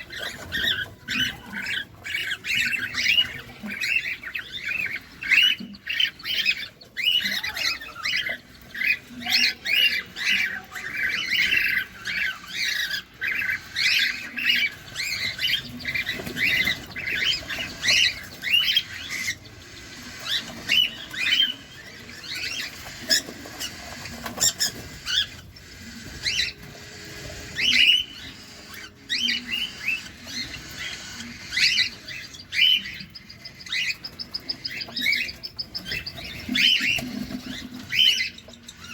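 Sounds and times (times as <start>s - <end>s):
cockatiels chirping: 0.0s - 38.9s.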